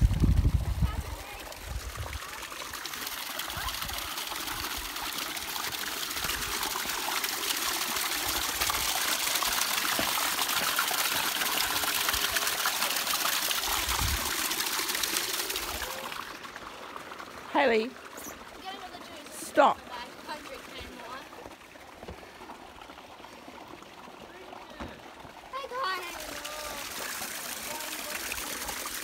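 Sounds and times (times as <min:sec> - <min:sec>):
water splashing over rocks: 0:00.0 - 0:29.0.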